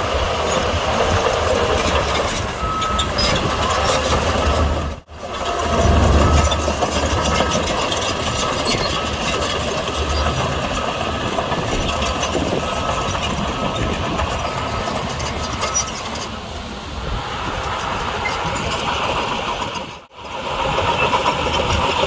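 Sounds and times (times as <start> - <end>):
diesel engine rumbling: 0.0 - 17.9.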